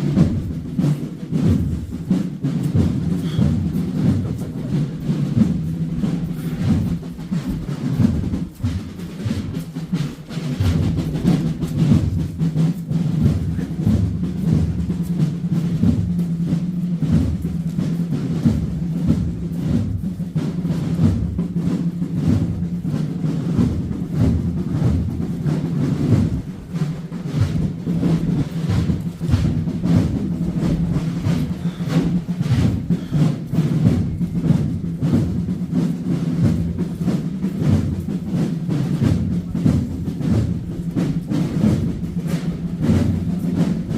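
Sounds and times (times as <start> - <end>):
heavy low drums beating: 0.0 - 43.9.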